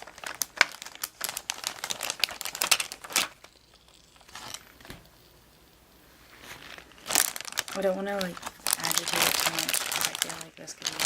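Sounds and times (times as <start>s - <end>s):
plastic bag crinkling: 0.0s - 5.6s, 6.3s - 11.0s.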